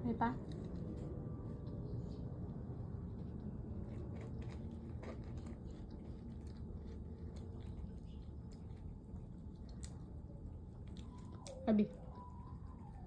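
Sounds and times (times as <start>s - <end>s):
cat crunching food: 0.4s - 13.0s.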